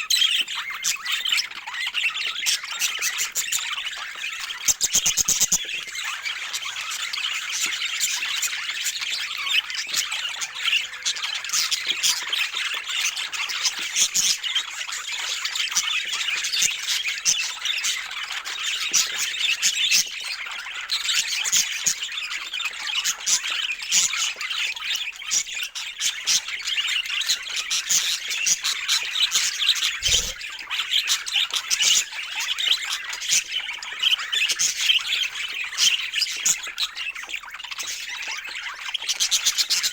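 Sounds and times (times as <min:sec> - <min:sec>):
budgerigars chattering: 0:00.1 - 0:39.9.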